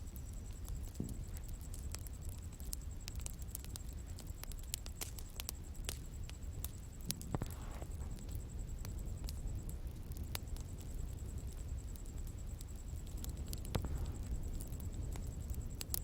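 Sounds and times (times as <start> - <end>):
bonfire crackling and popping: 0.0 - 16.0
fire flame rumbling: 0.0 - 16.0.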